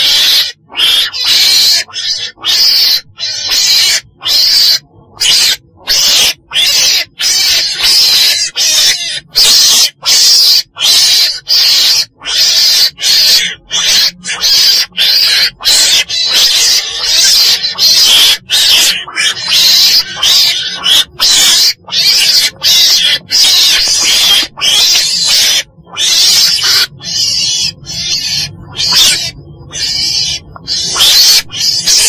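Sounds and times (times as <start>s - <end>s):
weasel hissing calls: 0.0s - 32.0s.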